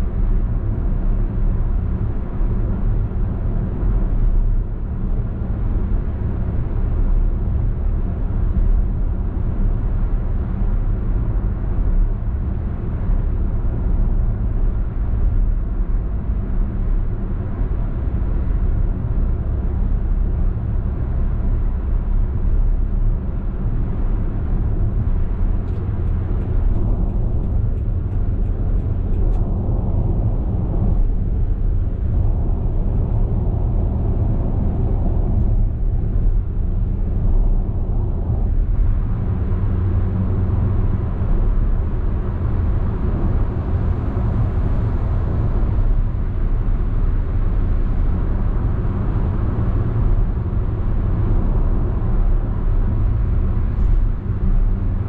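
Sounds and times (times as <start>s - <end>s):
tyre and road noise: 7.5s - 55.0s.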